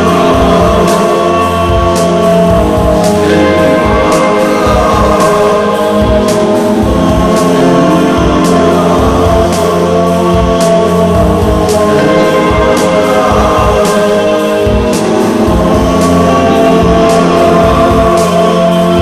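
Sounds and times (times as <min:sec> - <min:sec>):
choir-like voices: 0:00.0 - 0:19.0
steady beat with low pulses: 0:00.0 - 0:19.0.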